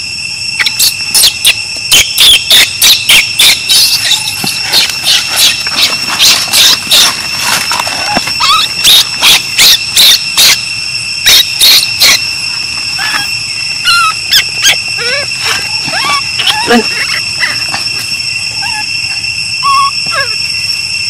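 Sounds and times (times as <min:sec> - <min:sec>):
steady high whine: 0:00.0 - 0:21.0
baby monkey screaming: 0:00.6 - 0:07.3, 0:08.0 - 0:10.6, 0:11.2 - 0:20.5.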